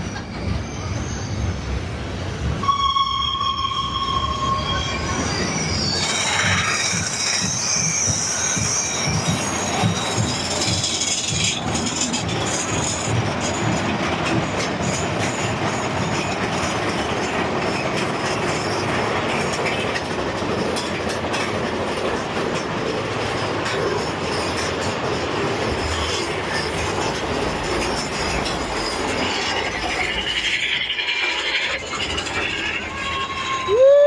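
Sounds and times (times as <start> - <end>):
roller coaster wheels rattling on rails: 0.0 - 34.0.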